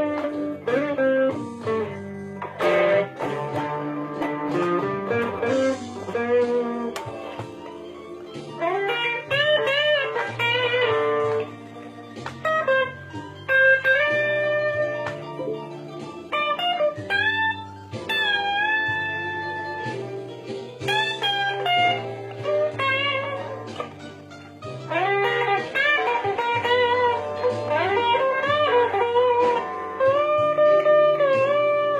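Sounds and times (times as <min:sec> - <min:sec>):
electric guitar blues lead: 0:00.0 - 0:31.9.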